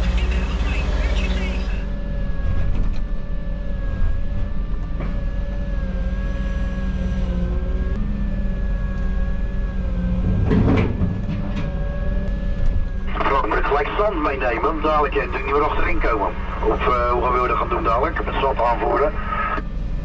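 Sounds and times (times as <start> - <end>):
diesel engine rumbling: 0.0 - 20.0
hydraulic whine: 0.0 - 20.0.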